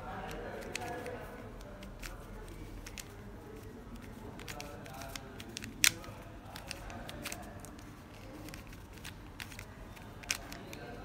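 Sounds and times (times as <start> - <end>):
puzzle cube clicking: 0.1 - 11.0.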